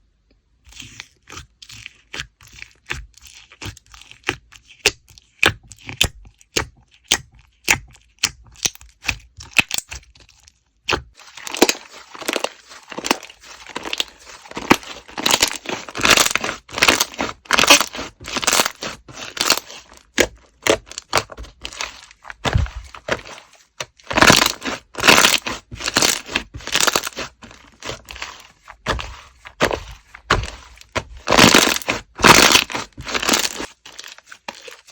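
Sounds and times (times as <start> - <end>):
slime crackling and popping: 5.9 - 10.0, 10.9 - 34.9.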